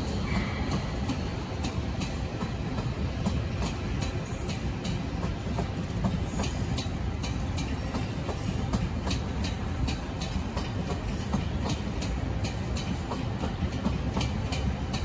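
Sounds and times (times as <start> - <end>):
train wheels rumbling on rails: 0.0 - 15.0
wheels clacking over rail joints: 0.0 - 15.0.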